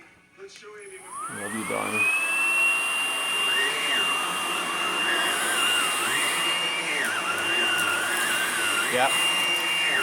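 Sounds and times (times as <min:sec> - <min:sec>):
stick vacuum motor whine: 0:00.9 - 0:10.0.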